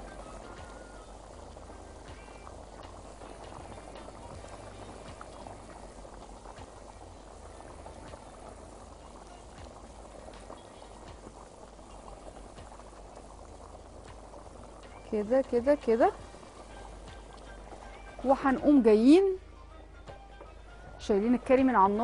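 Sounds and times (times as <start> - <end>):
sauce bubbling in a pan: 0.0 - 22.0.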